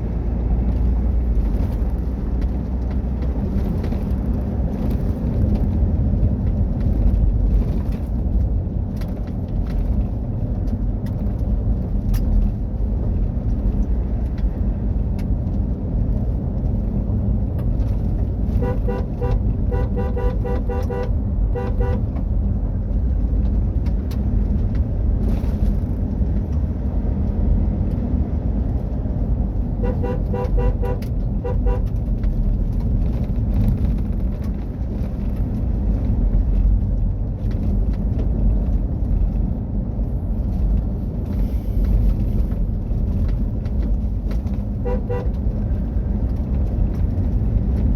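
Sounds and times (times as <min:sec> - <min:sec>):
vehicle engine and tyres rumbling: 0:00.0 - 0:47.9.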